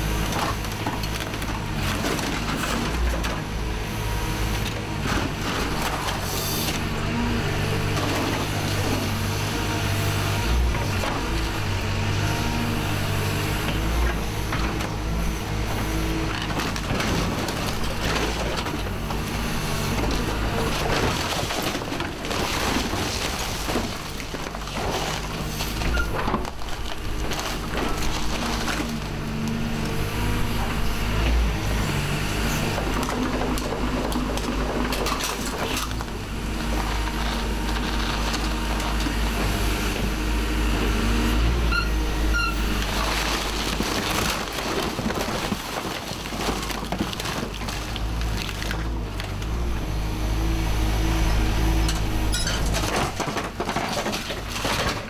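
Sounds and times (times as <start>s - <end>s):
excavator diesel engine: 0.0s - 55.0s
metal crunching and scraping: 0.0s - 55.0s.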